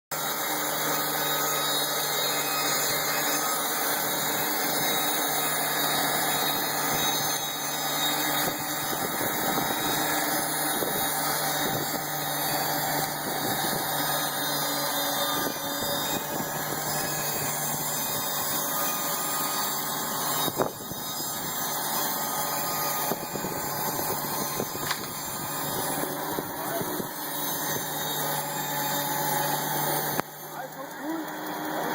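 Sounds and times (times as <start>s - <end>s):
sawmill machinery running: 0.1s - 31.9s.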